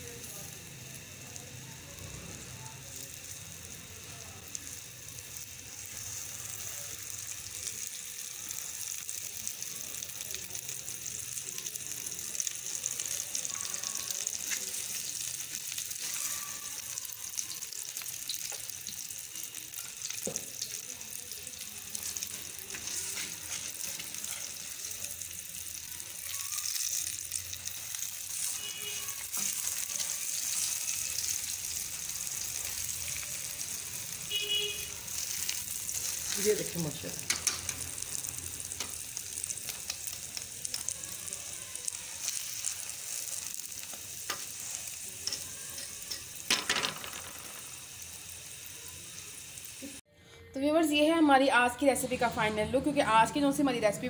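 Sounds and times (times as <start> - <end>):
ghee sizzling on a hot pan: 0.0 - 54.0.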